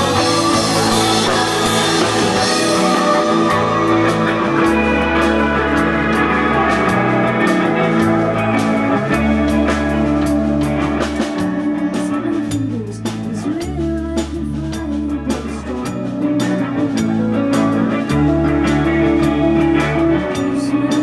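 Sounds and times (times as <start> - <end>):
drum and cymbal hits: 0.0 - 21.0
electric guitar: 0.0 - 21.0
held bass notes: 0.0 - 21.0.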